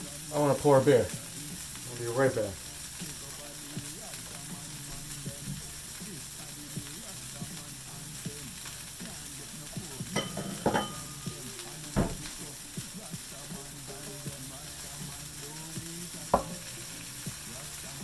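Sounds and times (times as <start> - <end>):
fish sizzling in a frying pan: 0.0 - 18.0.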